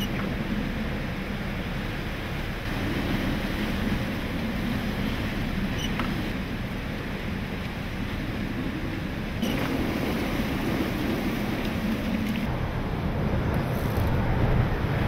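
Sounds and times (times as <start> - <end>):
strong wind rushing: 0.0 - 15.0.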